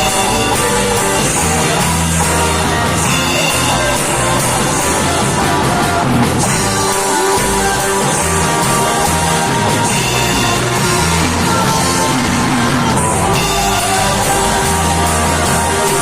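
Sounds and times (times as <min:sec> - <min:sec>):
electric guitar: 0:00.0 - 0:16.0
rock band playing: 0:00.0 - 0:16.0.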